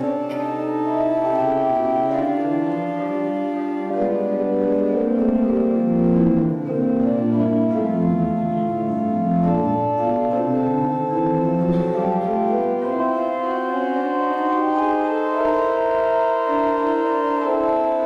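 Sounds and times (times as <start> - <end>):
organ playing a hymn: 0.0 - 18.0.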